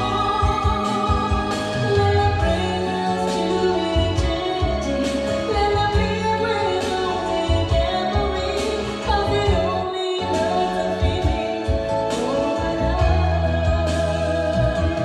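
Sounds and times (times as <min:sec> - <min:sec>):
backing track with heavy bass: 0:00.0 - 0:15.0
person singing karaoke: 0:00.0 - 0:15.0.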